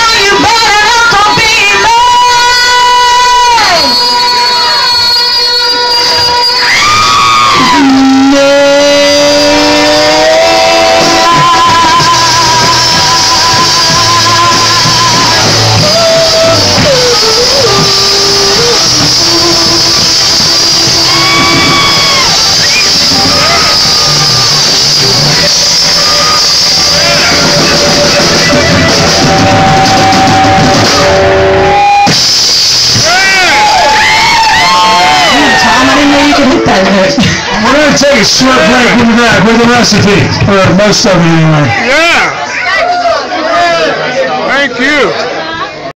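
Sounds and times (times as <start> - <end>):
electric guitar long held notes: 0.0 - 37.6
steady bass line: 0.0 - 42.1
live blues band playing: 0.0 - 42.5.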